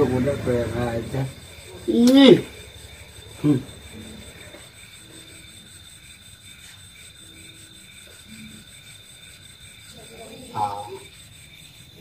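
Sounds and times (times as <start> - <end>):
faint insect chirping: 0.0 - 12.0
steady high whine: 0.0 - 12.0.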